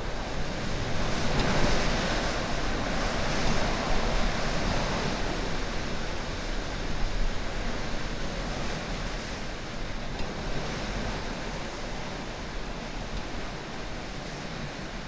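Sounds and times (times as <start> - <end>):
strong wind gusting through trees: 0.0 - 15.0.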